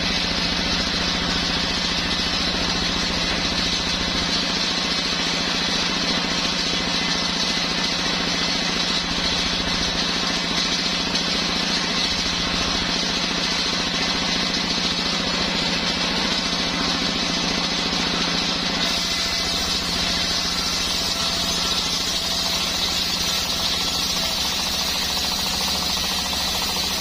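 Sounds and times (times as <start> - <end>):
sawmill engine humming: 0.0 - 27.0.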